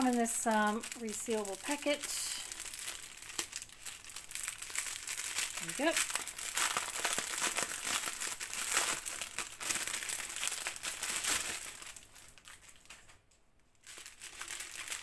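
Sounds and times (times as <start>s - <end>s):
plastic package crinkling: 0.0s - 15.0s.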